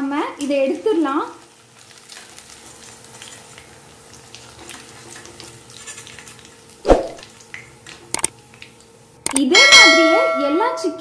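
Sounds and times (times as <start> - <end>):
chicken sizzling in hot oil: 0.0 - 9.2.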